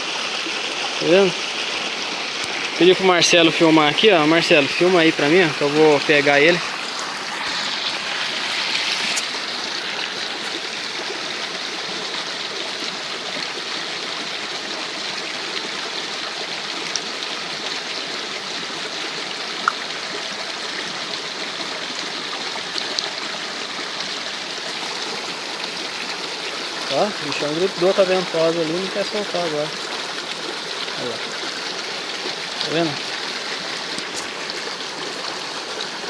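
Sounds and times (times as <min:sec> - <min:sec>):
stream and waterfall rushing: 0:00.0 - 0:36.0.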